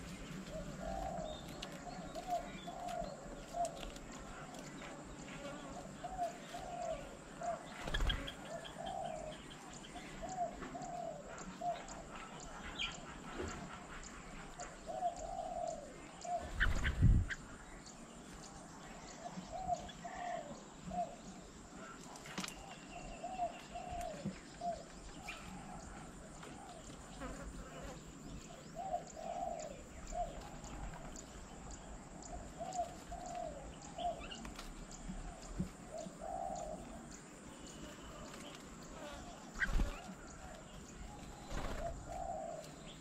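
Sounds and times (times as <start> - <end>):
low cooing bird calls: 0.0 - 43.0.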